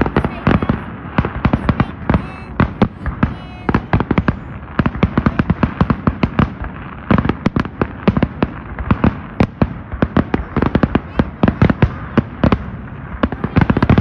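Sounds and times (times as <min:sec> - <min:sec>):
fireworks cracking and banging: 0:00.0 - 0:14.0.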